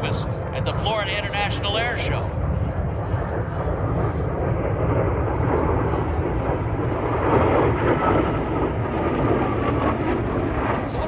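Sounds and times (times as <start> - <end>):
jet aircraft flying past: 0.0 - 11.0.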